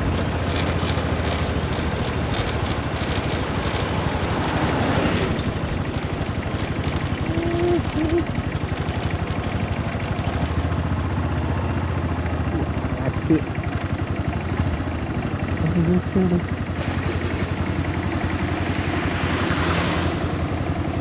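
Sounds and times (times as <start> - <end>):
motorcycle engine pulsing: 0.0 - 21.0.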